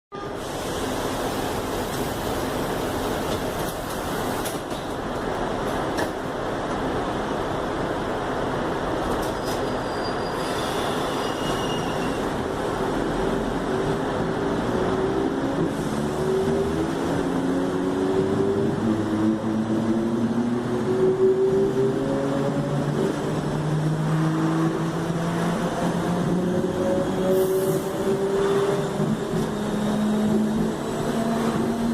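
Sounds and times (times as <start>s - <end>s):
train running rumble: 0.2s - 31.9s.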